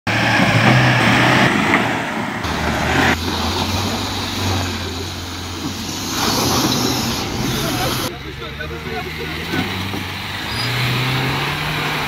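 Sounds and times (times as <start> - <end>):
car engine running under load: 0.1 - 12.0.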